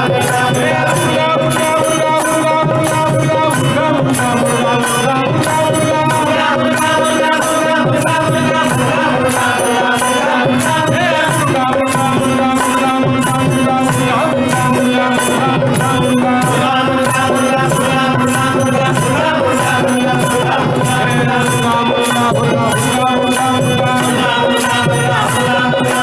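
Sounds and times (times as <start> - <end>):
devotional singing: 0.0 - 26.0
percussion beat: 0.0 - 26.0.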